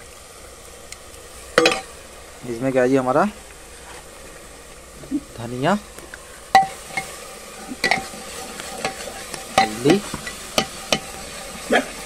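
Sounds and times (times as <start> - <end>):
spices frying in oil sizzling: 0.0 - 12.0.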